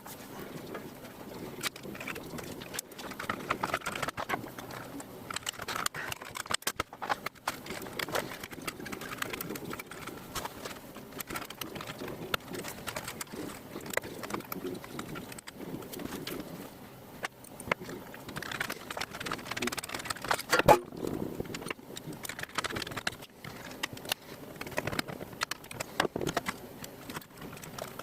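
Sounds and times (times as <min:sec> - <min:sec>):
tools clicking on plastic parts: 0:01.6 - 0:16.5, 0:17.2 - 0:28.0.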